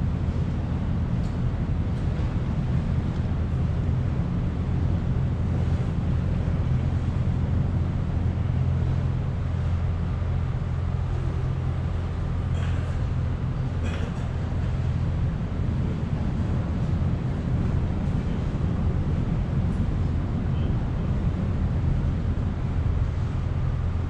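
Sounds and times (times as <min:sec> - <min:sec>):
ship engine rumble: 0:00.0 - 0:24.0
wind buffeting microphone: 0:00.0 - 0:24.0.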